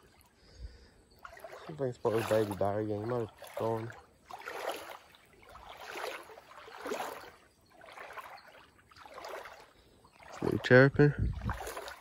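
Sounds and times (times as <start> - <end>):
footsteps wading through water: 0.0 - 12.0.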